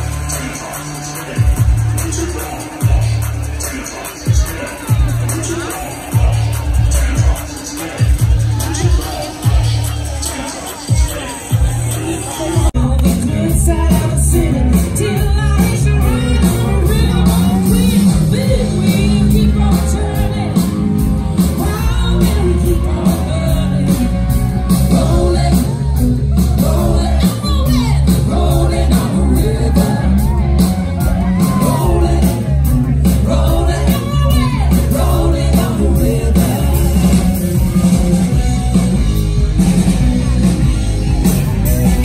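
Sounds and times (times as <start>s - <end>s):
bass guitar: 0.0s - 10.4s, 11.0s - 42.0s
lead singer singing: 0.0s - 38.6s
drum kit beat: 0.0s - 42.0s.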